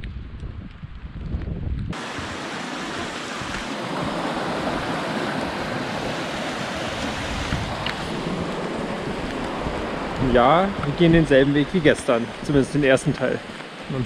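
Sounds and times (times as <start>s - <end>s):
wind rumble on microphone: 0.0s - 12.7s
fast-flowing water rushing: 2.0s - 14.0s.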